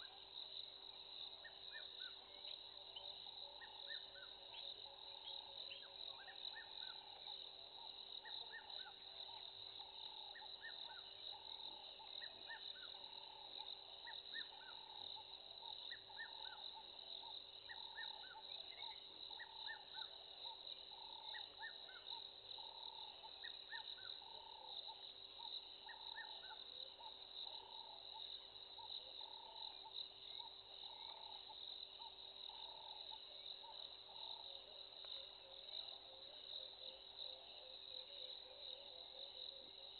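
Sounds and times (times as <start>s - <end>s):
lower repeating insect call: 0.0s - 39.9s
shrill chorus of crickets: 0.0s - 39.9s.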